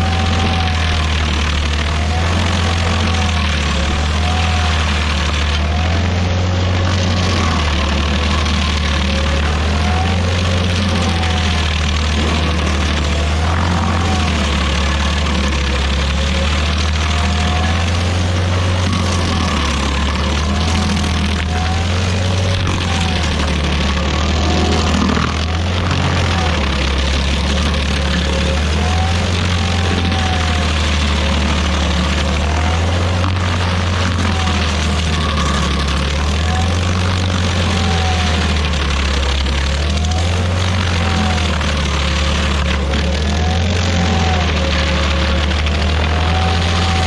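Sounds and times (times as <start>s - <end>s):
cutter wheel grinding stump: 0.0s - 47.0s
engine running hard: 0.0s - 47.0s.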